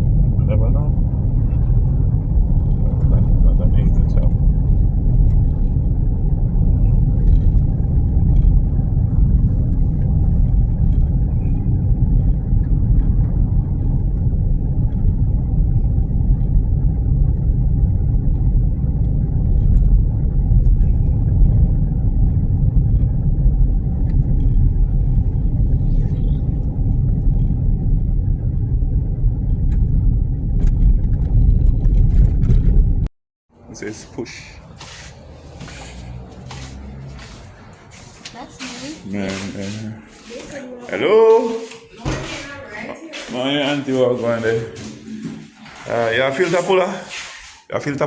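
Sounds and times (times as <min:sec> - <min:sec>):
car driving rumble: 0:00.0 - 0:46.4.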